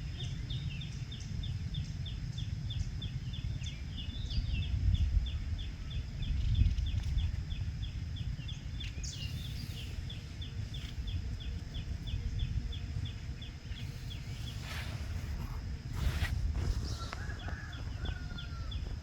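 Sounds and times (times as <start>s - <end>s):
bird chirping: 0.0s - 15.4s.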